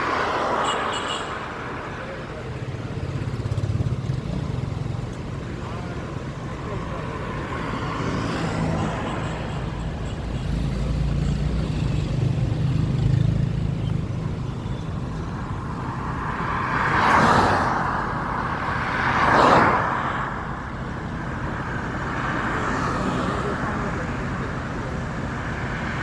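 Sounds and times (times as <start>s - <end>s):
traffic engine hum: 0.0s - 26.0s
vehicles passing close by: 0.0s - 26.0s.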